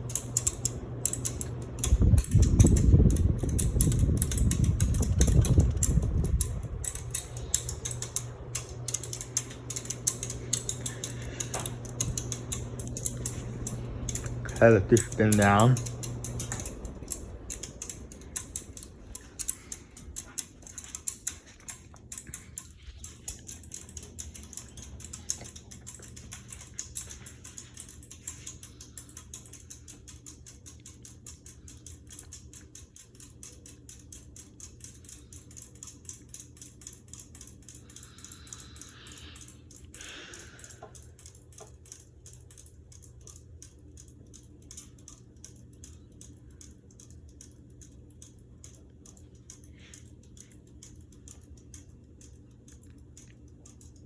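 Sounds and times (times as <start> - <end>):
ceiling fan coasting down: 0.0 - 54.0
rapid faint ticking: 0.0 - 54.0.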